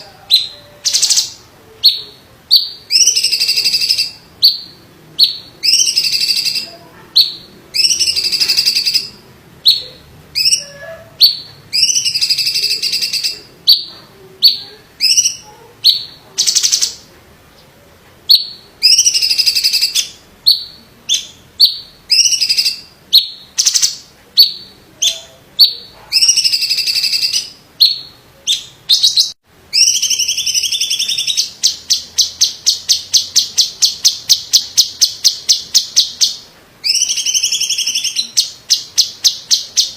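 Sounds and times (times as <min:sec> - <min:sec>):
bird singing whistled phrases: 0:00.0 - 0:17.0, 0:18.3 - 0:39.9.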